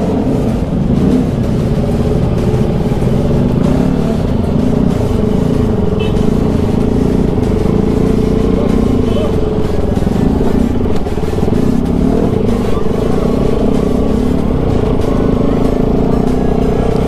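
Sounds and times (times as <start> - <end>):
motorcycle engine revving: 0.0 - 17.0
road and wind rush: 0.0 - 17.0.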